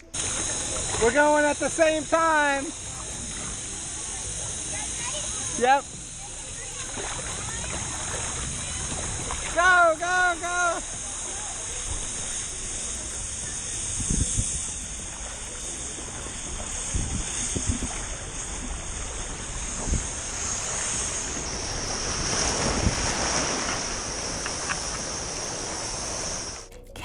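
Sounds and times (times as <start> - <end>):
splashing water: 0.0 - 27.0
wind buffeting microphone: 0.0 - 27.0.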